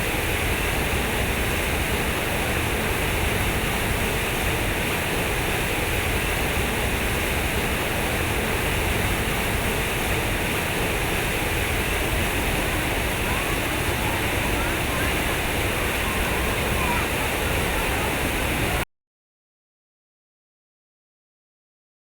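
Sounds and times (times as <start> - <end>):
water rushing: 0.0 - 18.8.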